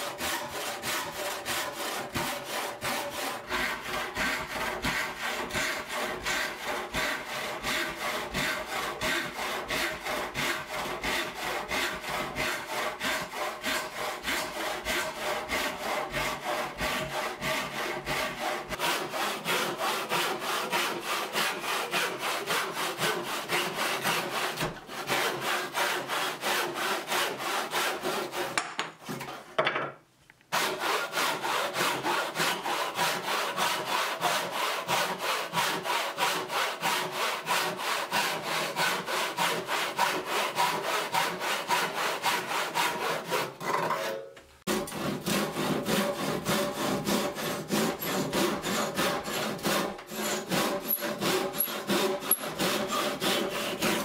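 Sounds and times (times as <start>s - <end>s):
hand saw cutting wood: 0.0s - 29.6s, 30.5s - 54.0s.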